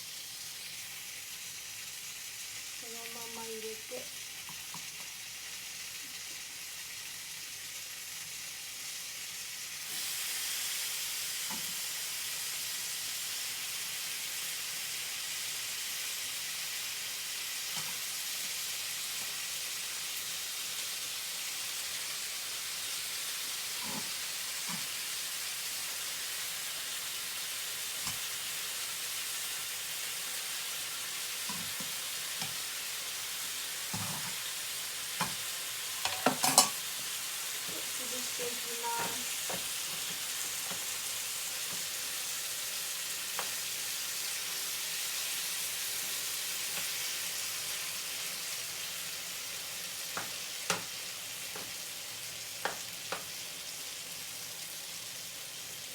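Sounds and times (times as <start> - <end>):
vegetables sizzling in oil: 0.0 - 55.9.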